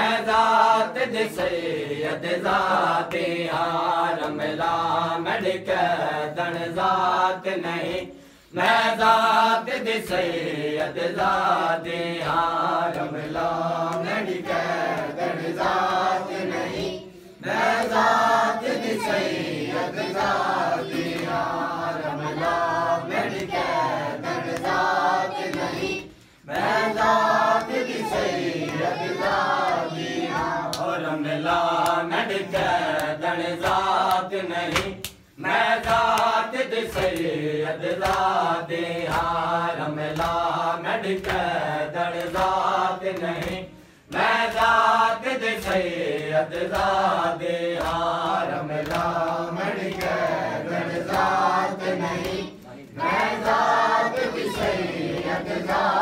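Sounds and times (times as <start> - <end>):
group chanting in unison: 0.0 - 56.0.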